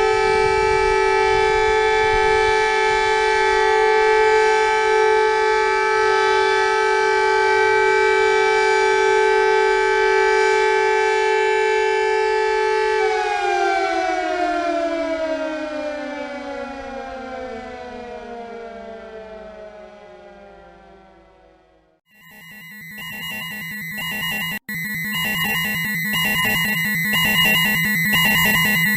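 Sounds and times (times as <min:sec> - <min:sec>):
civil defense siren: 0:00.0 - 0:28.9.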